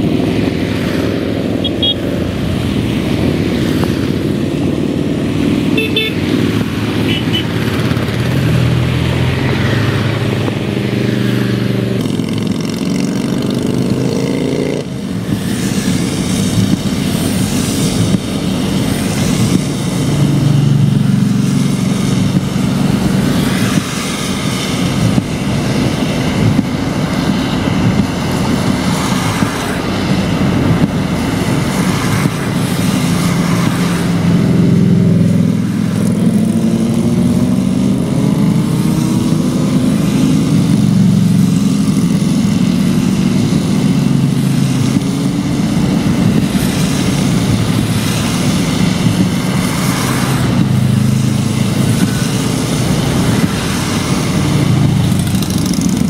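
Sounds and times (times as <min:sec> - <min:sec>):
motorcycles riding past: 0:00.0 - 0:30.1, 0:31.2 - 0:56.0
tyres hissing on wet road: 0:00.0 - 0:56.0.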